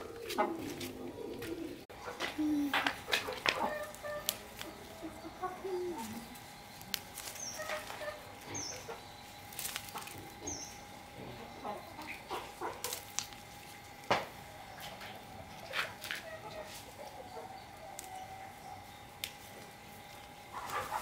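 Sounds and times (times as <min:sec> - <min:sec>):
chickens clucking softly: 0:00.0 - 0:09.2, 0:09.9 - 0:21.0
faint steady hum: 0:00.0 - 0:21.0.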